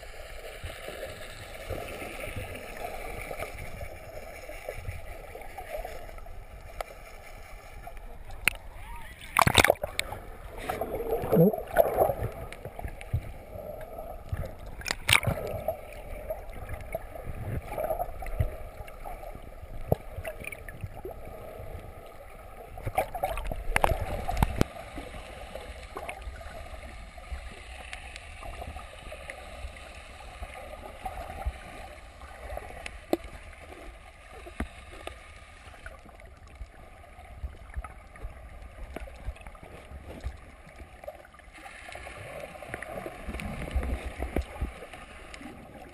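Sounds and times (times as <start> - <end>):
underwater rumbling and gurgling: 0.0 - 45.9.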